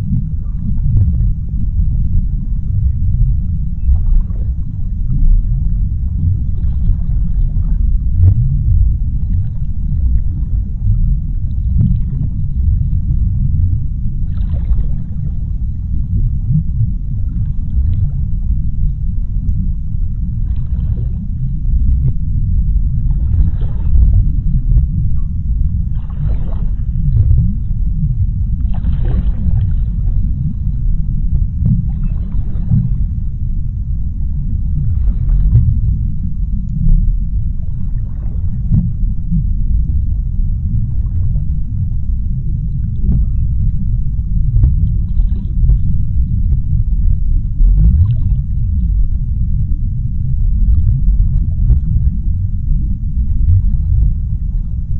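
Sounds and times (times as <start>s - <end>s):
deep underwater rumble: 0.0s - 54.9s.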